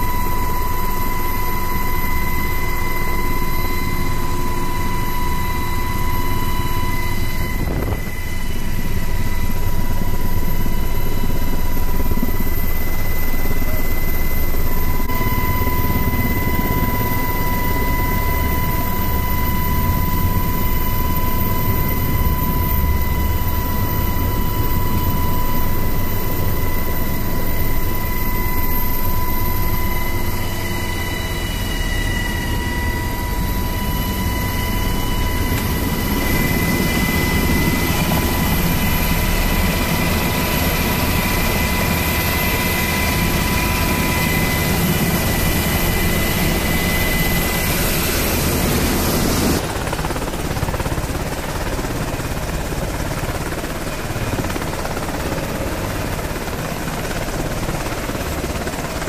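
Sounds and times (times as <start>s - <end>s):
high-pitched whine: 0.0s - 49.8s
helicopter rotor and engine: 0.0s - 59.0s.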